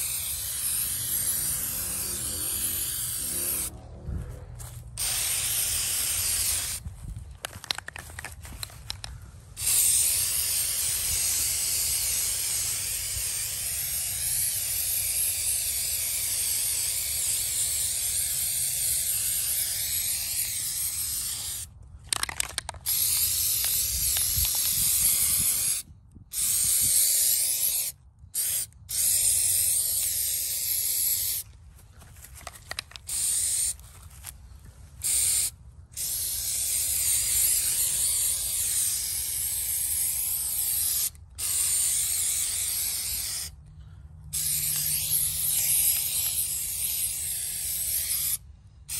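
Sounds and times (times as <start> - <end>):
aerosol can spraying hiss: 0.0 - 3.7, 5.0 - 6.8, 9.6 - 21.7, 22.9 - 31.4, 33.0 - 33.8, 35.0 - 43.5, 44.3 - 48.9.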